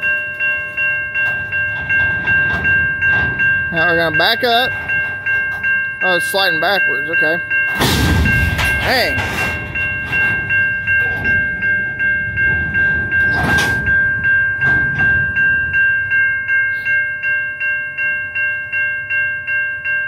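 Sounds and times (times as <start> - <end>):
train cars rumbling: 0.0 - 19.9
electronic crossing bell ringing: 0.0 - 20.0
rush of rail noise: 1.1 - 17.3.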